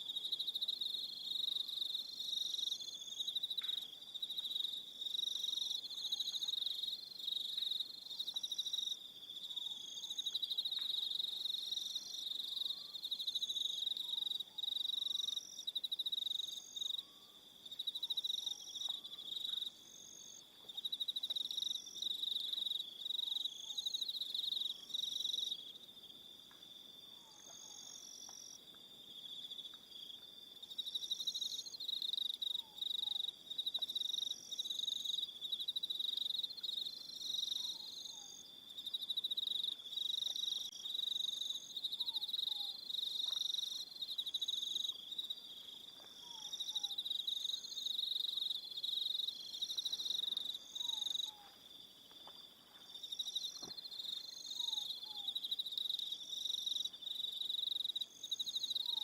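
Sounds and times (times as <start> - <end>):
crickets chirping in trills: 0.0 - 59.0.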